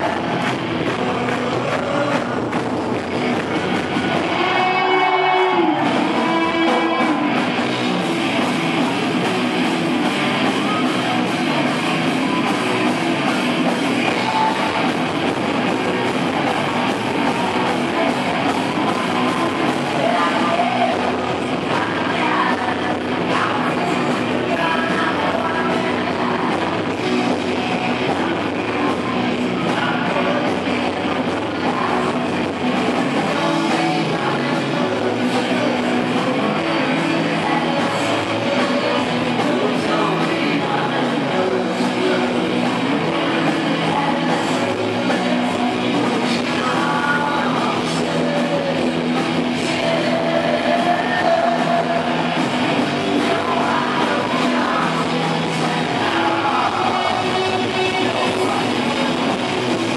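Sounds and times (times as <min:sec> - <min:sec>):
drums: 0:00.0 - 0:59.9
electric guitar: 0:00.0 - 0:59.9
person singing: 0:00.0 - 0:59.9
rock band playing live: 0:00.0 - 0:59.9.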